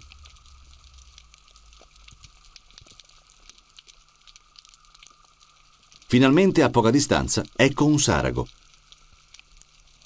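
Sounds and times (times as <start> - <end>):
low steady underwater hum: 0.0 - 10.0
soft underwater clicks and crackles: 0.0 - 10.0.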